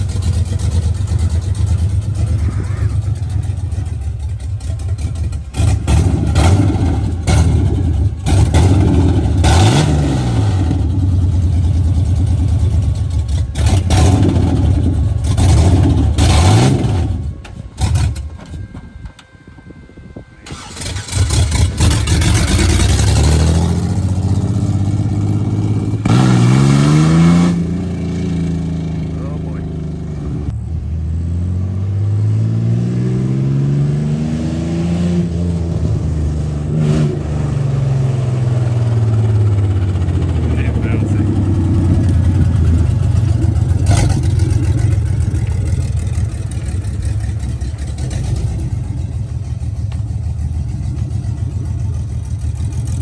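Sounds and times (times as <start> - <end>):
truck engine revving: 0.0 - 19.0, 20.4 - 53.0.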